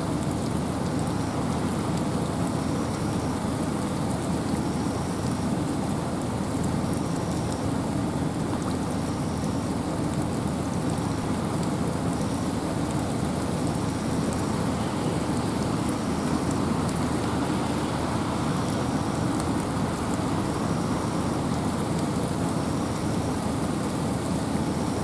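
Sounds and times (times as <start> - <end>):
rain and wind in forest: 0.0 - 25.0
raindrop ticks: 0.1 - 5.8, 9.4 - 24.8.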